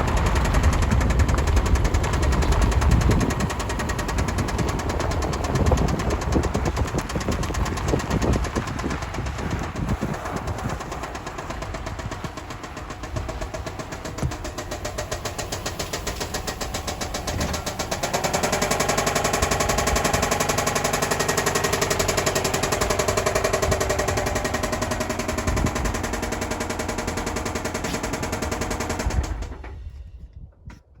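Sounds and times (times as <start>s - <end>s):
engine running with rod knock: 0.0s - 30.9s.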